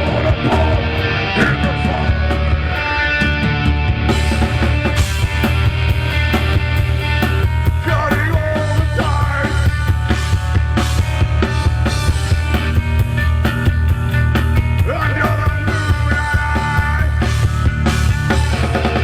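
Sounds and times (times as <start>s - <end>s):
bass guitar: 0.0s - 19.0s
distorted guitars: 0.0s - 19.0s
drum kit beat: 0.0s - 19.0s.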